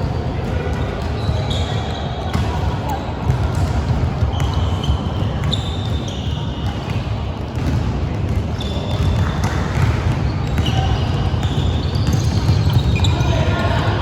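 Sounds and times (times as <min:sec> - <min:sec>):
basketball bouncing on court: 0:00.0 - 0:14.0
players' voices: 0:00.0 - 0:14.0
sneaker squeaks: 0:00.4 - 0:14.0.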